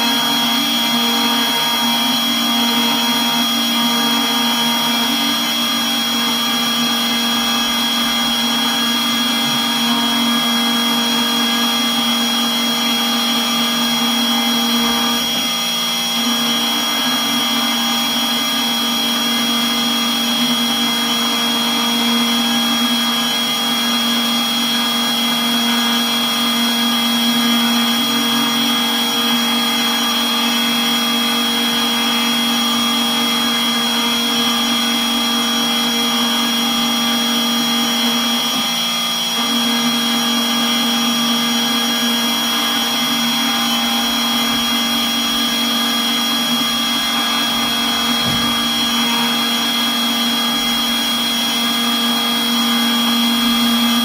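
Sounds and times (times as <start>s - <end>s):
milling spindle whining: 0.0s - 54.0s.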